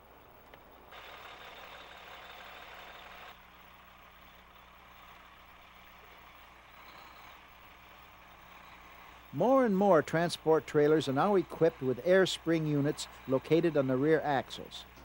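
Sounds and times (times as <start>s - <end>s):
diesel truck engine running: 0.8s - 15.0s.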